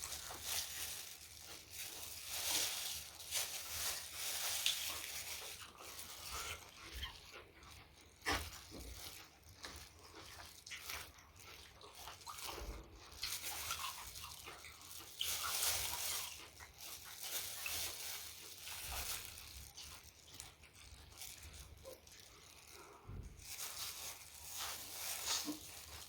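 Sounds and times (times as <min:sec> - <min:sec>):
person chewing and crunching food: 0:00.0 - 0:26.0.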